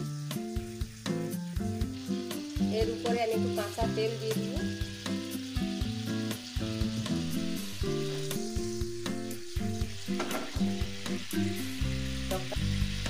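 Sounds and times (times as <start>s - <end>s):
instrumental background music: 0.0s - 13.0s
sauce sizzling in a frying pan: 0.0s - 13.0s.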